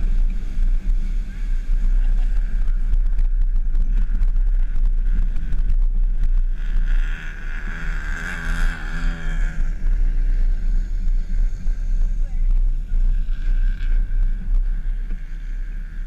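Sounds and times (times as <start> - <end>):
car engine running: 0.0 - 16.0
wind buffeting microphone: 0.0 - 16.0.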